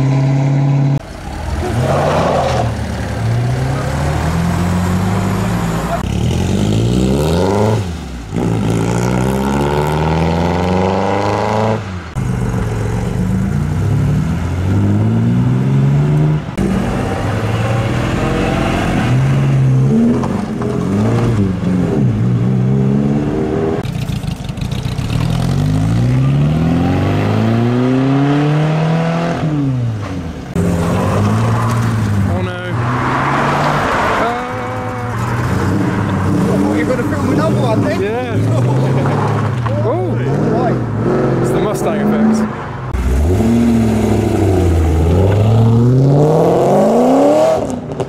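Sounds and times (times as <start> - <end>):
cars accelerating hard: 0.0 - 23.8, 25.0 - 48.0.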